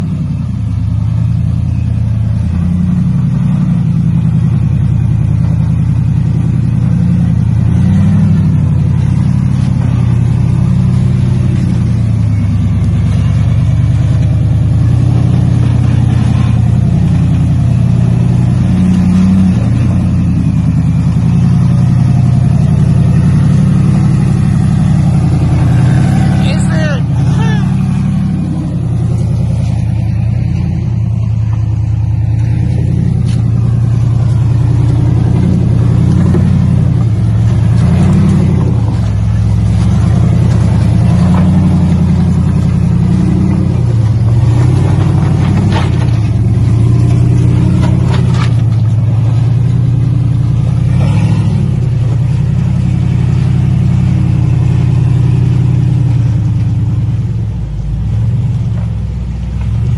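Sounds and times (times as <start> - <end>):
engine revving under load: 0.0 - 59.9.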